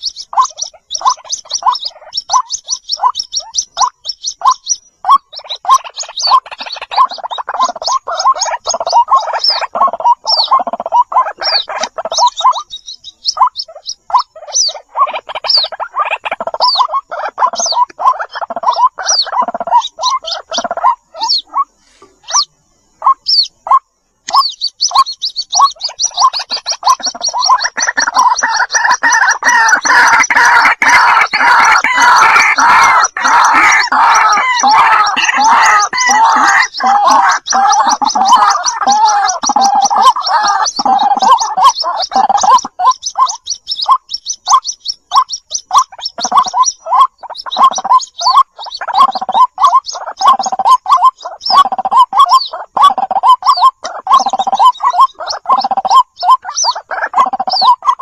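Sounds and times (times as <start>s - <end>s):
bird chicks calling: 0.0s - 58.0s
high thin peeps: 0.0s - 58.0s.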